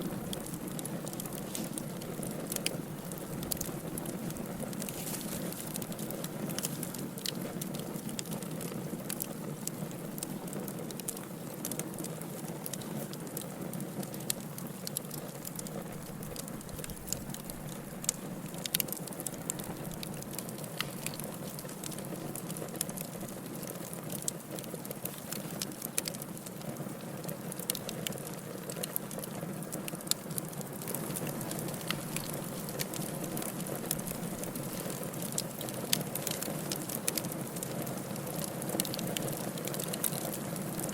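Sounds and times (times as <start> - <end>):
firewood burning in fireplace: 0.0 - 40.9.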